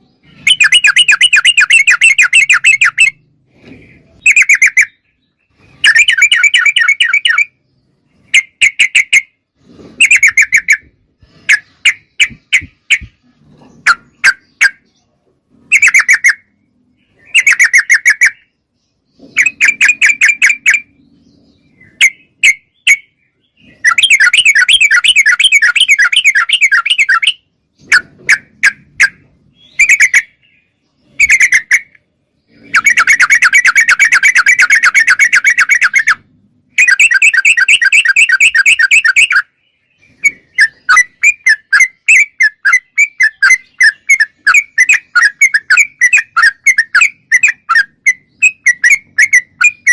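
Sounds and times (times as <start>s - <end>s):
bird rapid chattering calls: 0.0s - 49.9s.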